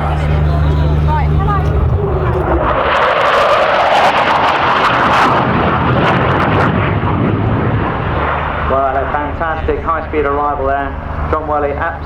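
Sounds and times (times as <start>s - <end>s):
jet roaring past: 0.0s - 12.0s.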